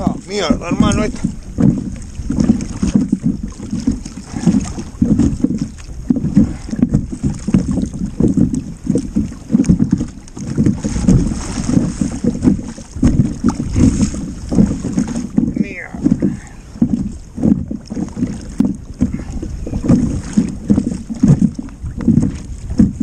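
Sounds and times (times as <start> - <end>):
water slapping against hull: 0.0 - 23.0
wind buffeting microphone: 0.0 - 23.0.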